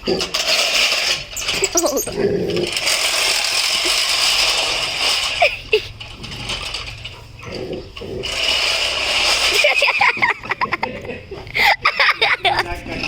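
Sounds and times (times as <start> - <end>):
lawnmower whirring and rattling: 0.2 - 13.0.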